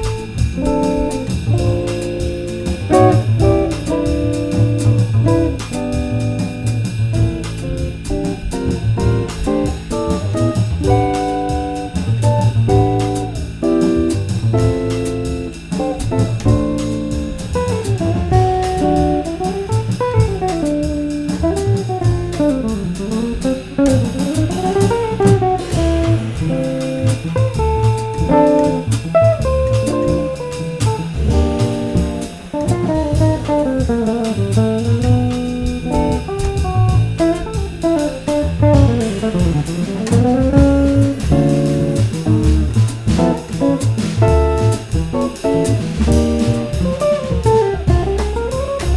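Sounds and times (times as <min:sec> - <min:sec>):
electric guitar melody: 0:00.0 - 0:48.9
jazz trio playing: 0:00.0 - 0:48.9.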